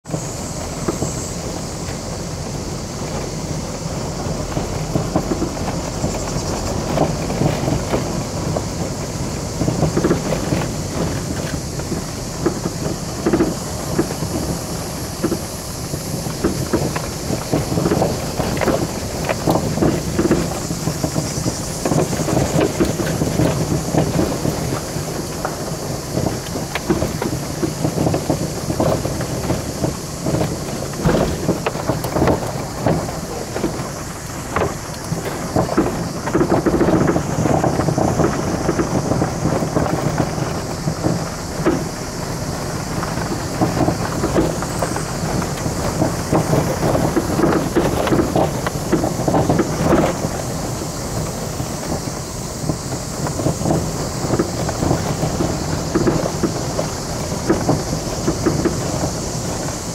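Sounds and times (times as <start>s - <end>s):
tyres rumbling on gravel: 0.0s - 59.9s
gravel knocking against car: 0.1s - 59.9s.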